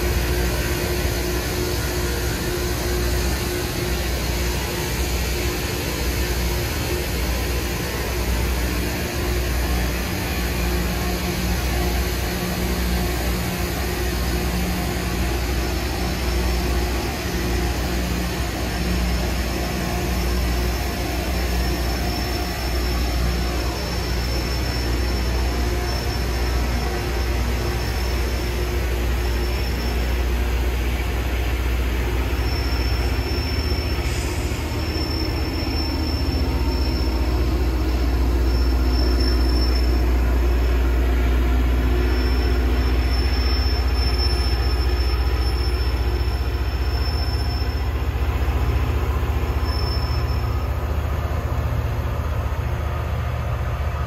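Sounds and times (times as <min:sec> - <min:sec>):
hiss of grinding stones on rail: 0:00.0 - 0:47.2
low train rumble: 0:00.0 - 0:54.0.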